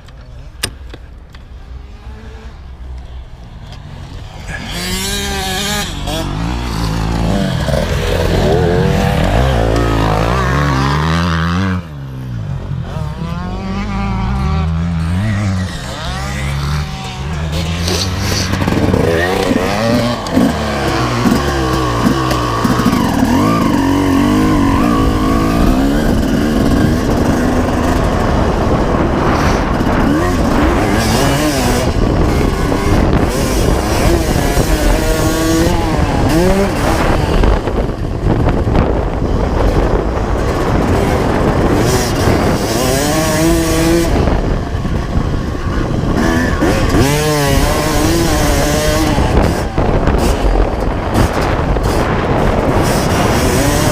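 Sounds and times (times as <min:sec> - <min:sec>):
motorcycle engine revving: 0:01.3 - 0:53.9.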